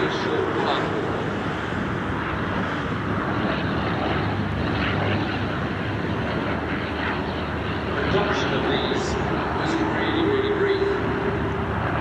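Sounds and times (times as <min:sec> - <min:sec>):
propeller plane engines: 0:00.0 - 0:12.0.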